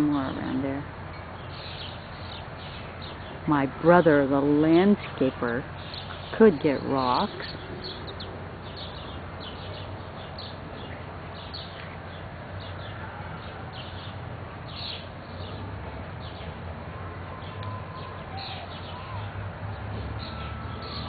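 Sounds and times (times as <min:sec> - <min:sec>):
steady low hum: 0:00.0 - 0:17.3
songbirds chirping: 0:00.0 - 0:21.0.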